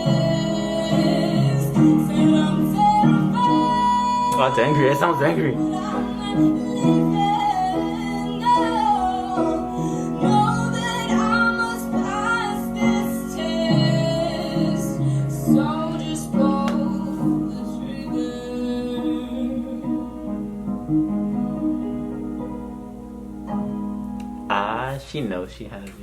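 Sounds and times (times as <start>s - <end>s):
woman singing: 0.0s - 22.4s
instrumental backing music: 0.0s - 25.0s.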